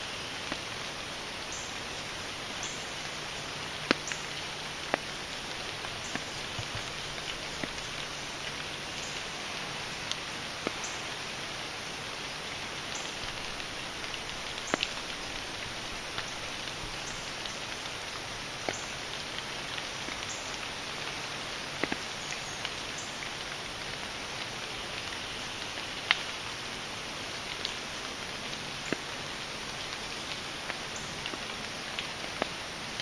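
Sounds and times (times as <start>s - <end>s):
louder nearby raindrops: 0.0s - 33.0s
steady rain in woodland: 0.0s - 33.0s.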